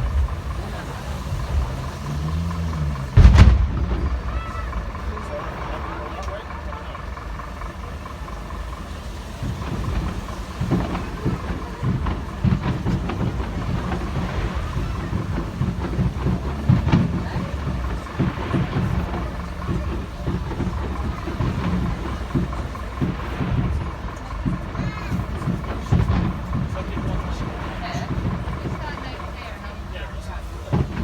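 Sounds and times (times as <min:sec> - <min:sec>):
fireworks bangs: 0:00.0 - 0:31.0
low rumble: 0:00.0 - 0:31.0.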